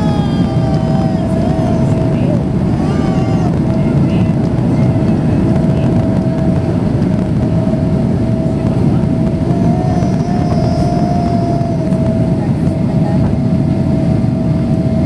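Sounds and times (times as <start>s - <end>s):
constant engine whine: 0.0s - 15.0s
jet engine cabin roar: 0.0s - 15.0s.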